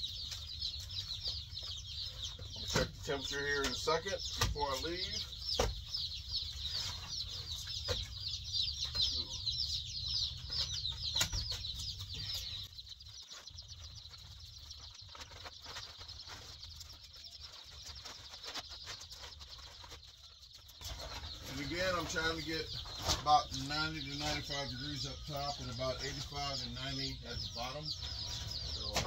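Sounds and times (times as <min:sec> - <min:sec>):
baby chicks peeping: 0:00.0 - 0:29.0.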